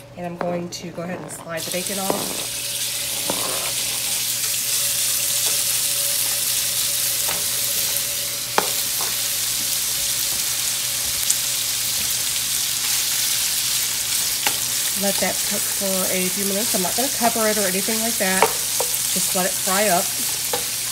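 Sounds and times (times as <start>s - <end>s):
bacon sizzling in a frying pan: 1.6s - 20.9s.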